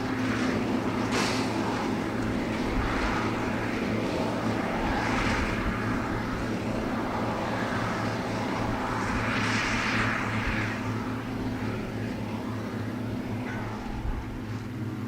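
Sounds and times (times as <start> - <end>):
heavy diesel engines running: 0.0 - 15.0.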